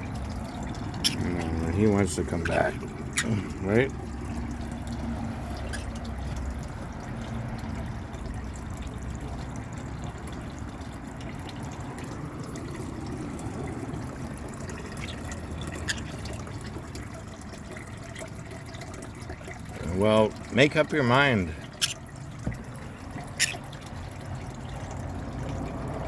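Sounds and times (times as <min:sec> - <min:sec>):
water trickling in bird bath: 0:00.0 - 0:26.0.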